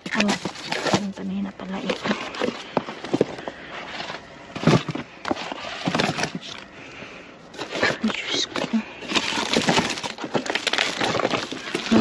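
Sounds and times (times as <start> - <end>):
boxes and packages clattering: 0.0 - 6.8, 7.5 - 12.0
cardboard and plastic rustling: 0.0 - 12.0.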